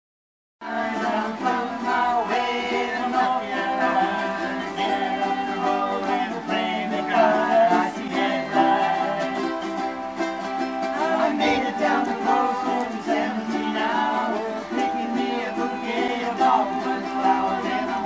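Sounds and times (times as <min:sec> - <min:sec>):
people singing: 0:00.6 - 0:18.0
ukuleles strumming: 0:00.6 - 0:18.0
violin: 0:00.6 - 0:18.0.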